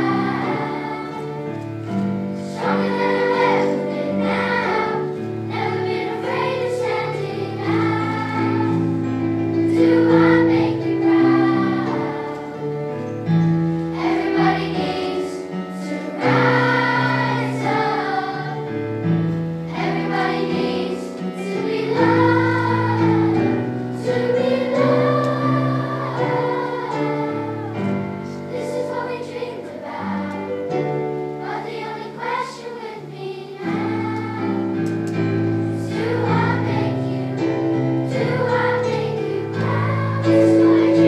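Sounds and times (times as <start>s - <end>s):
children's choir singing: 0.0s - 41.0s
instrumental accompaniment: 0.0s - 41.0s.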